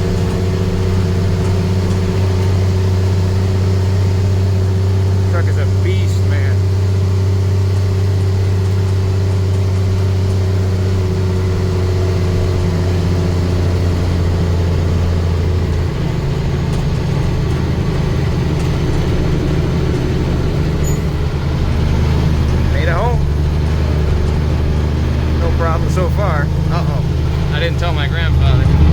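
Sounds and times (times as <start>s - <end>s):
diesel truck engine droning: 0.0s - 28.9s.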